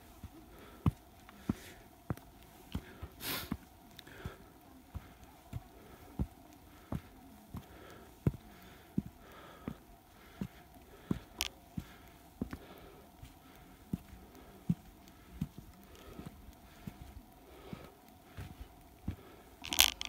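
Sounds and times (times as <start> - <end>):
footsteps on earthen trail: 0.0 - 20.0.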